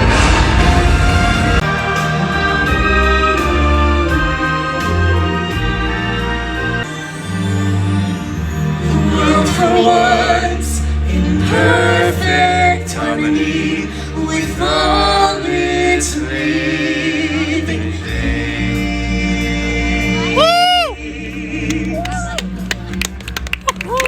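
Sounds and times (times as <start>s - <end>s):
choir singing long wavering notes: 0.0s - 22.2s
steady bass accompaniment: 0.0s - 24.0s.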